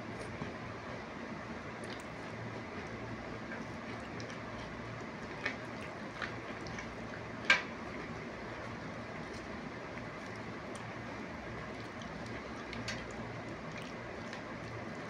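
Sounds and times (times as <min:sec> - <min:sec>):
steady background hum: 0:00.0 - 0:15.0
wet clicks of eating fruit: 0:01.8 - 0:15.0.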